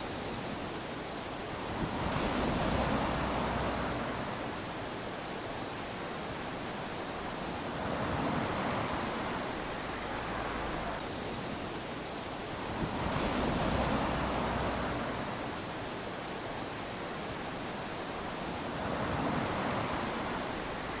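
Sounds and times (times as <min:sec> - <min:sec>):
small waves washing onto a beach: 0:00.0 - 0:21.0.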